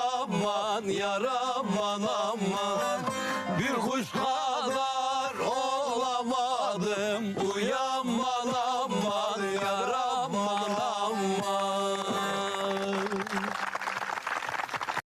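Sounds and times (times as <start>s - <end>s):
folk music with wavering melody: 0.0s - 13.5s.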